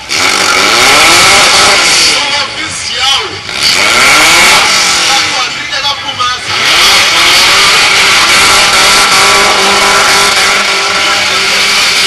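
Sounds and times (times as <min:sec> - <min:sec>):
car engine revving high: 0:00.0 - 0:12.0
tyres screeching in a burnout: 0:00.0 - 0:12.0.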